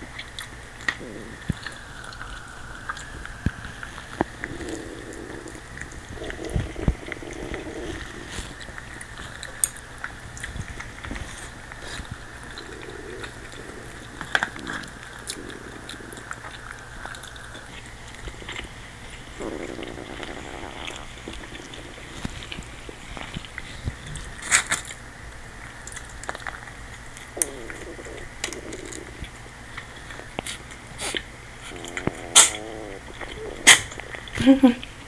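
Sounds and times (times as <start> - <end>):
stomach rumbling and gurgling: 0.0 - 35.0.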